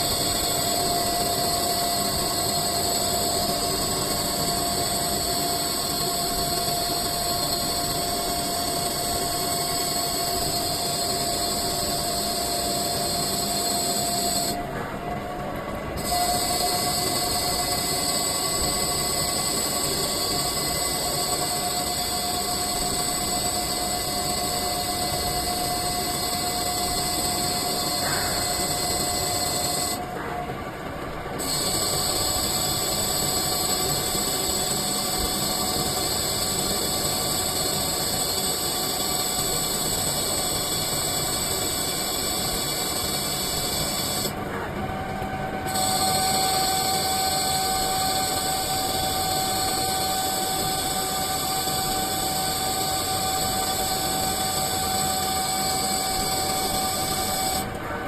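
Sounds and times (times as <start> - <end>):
lathe machine whine: 0.0 - 58.0.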